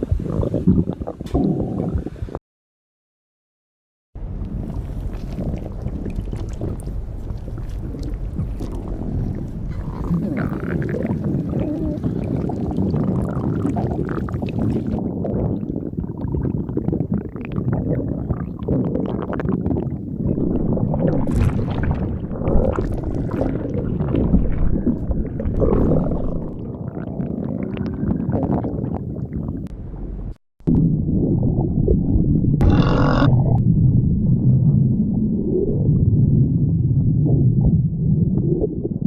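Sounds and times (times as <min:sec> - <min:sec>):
stomach growling and gurgling: 0:00.0 - 0:02.4, 0:04.4 - 0:29.7, 0:30.7 - 0:39.0.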